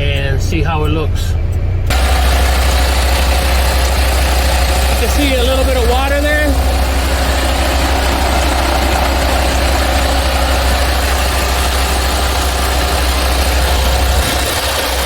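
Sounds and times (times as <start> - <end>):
diesel truck engine idling: 1.4 - 15.0.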